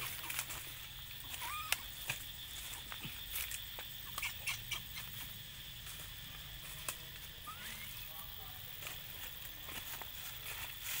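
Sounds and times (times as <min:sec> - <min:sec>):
dry leaves crackling: 0:00.0 - 0:11.0.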